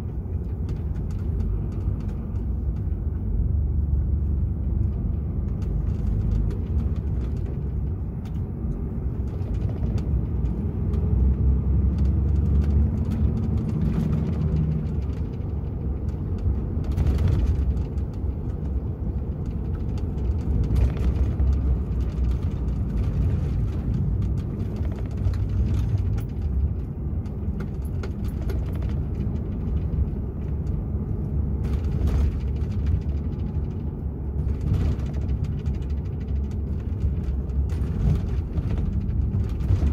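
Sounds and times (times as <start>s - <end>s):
faint rattles and clicks: 0.0s - 39.9s
truck engine and road rumble: 0.0s - 39.9s.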